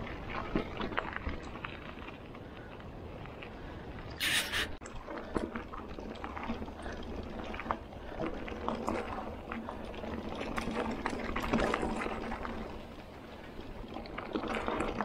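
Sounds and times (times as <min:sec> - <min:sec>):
bike clicks and rattles: 0:00.0 - 0:15.0
bike tyres crunching on dirt: 0:00.0 - 0:15.0.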